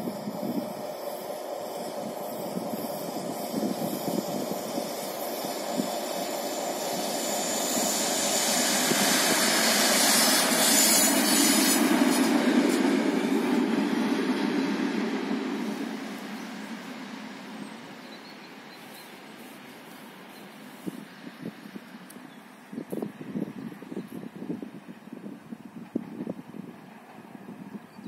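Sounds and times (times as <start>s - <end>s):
diesel locomotive engine: 0.0s - 28.0s
train wheels on rails: 0.0s - 28.0s.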